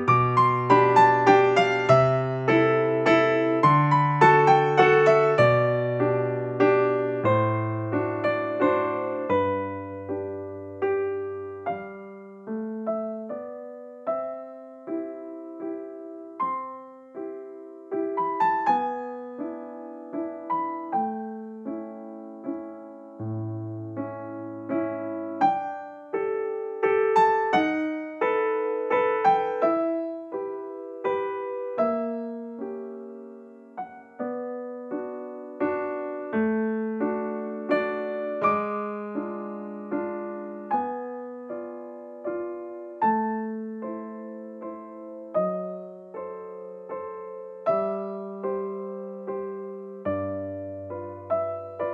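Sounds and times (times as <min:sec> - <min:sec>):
piano music: 0:00.0 - 0:51.9.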